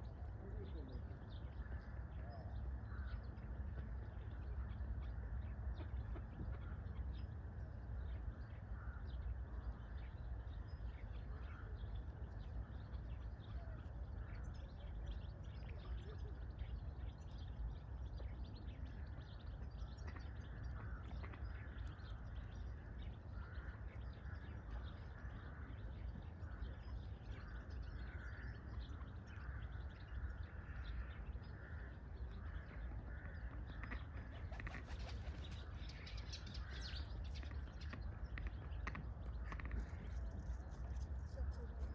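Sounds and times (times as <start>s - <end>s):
birds chirping and calling: 0.0s - 41.9s
low background rumble: 0.0s - 41.9s.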